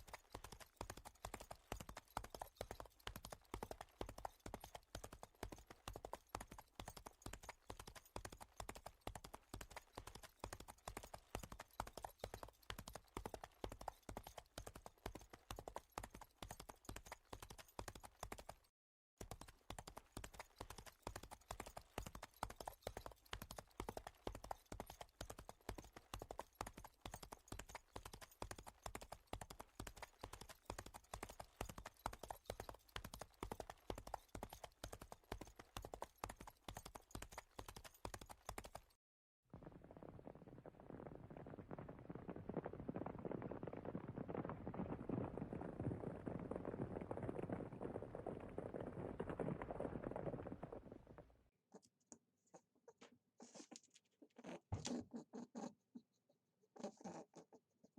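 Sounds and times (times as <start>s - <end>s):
horse hooves clip-clopping: 0.0s - 39.0s, 40.1s - 51.4s.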